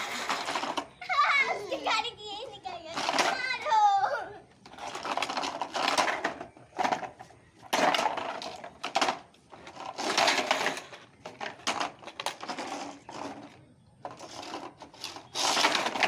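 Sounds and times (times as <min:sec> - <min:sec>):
toy cars clattering together: 0:00.0 - 0:02.0, 0:02.7 - 0:04.0, 0:04.6 - 0:16.0
plastic toy cars whirring: 0:00.0 - 0:16.0.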